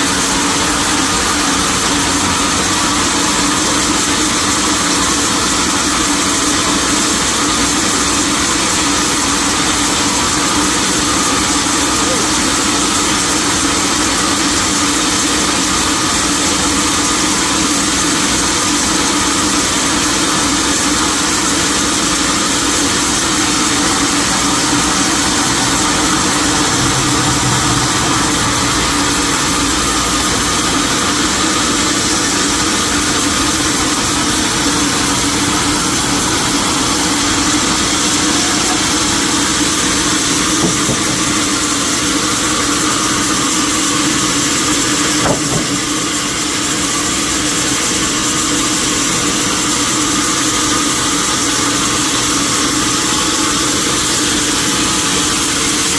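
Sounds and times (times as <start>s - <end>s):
sawmill machinery humming: 0.0s - 55.9s.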